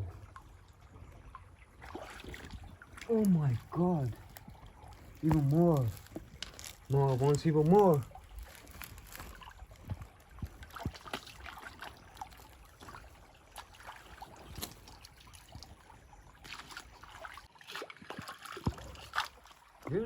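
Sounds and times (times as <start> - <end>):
small splashes and clicks: 0.0 - 20.0
stream water trickling: 0.0 - 20.0.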